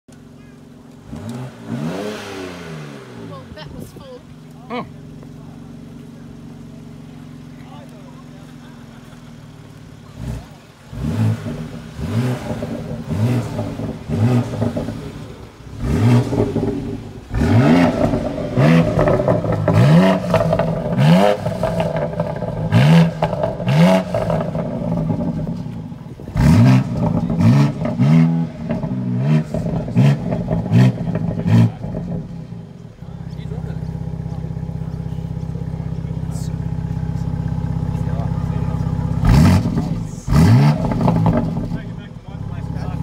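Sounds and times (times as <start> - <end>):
car engine revving: 0.1 - 43.0
exhaust cracks: 0.1 - 43.0.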